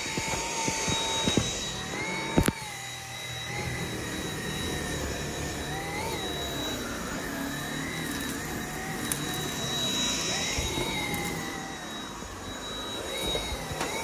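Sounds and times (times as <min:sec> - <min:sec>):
cordless vacuum running: 0:00.0 - 0:14.0.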